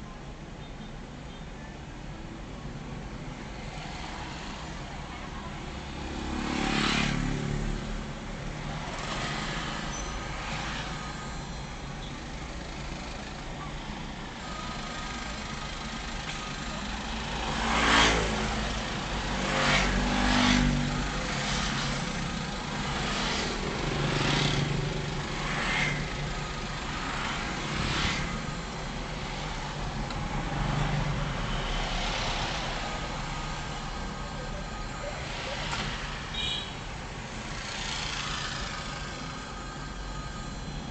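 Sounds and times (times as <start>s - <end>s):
road traffic rumble: 0.0s - 40.9s
vehicles passing: 0.0s - 40.9s.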